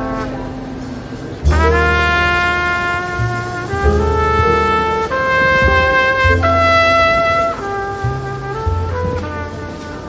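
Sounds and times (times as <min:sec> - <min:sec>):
bass line: 0:00.0 - 0:10.0
jazzy brass tune: 0:00.0 - 0:10.0.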